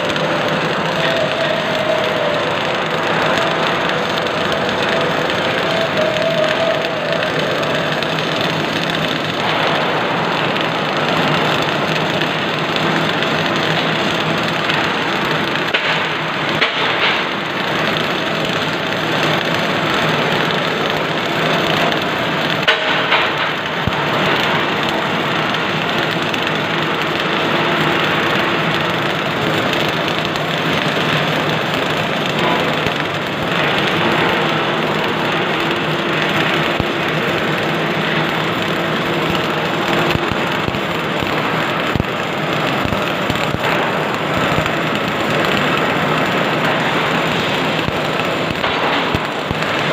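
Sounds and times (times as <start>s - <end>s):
welding arc crackling: 0.0s - 49.9s.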